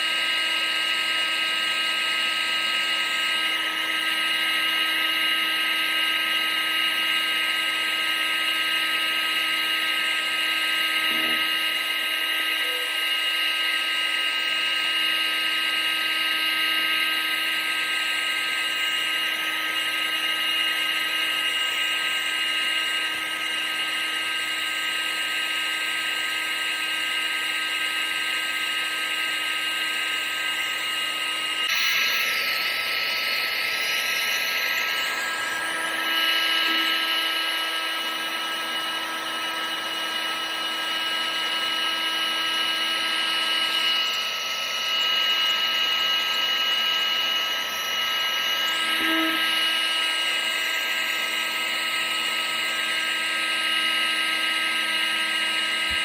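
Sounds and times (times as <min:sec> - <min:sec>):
appliance motor high-pitched whine: 0:00.0 - 0:56.0.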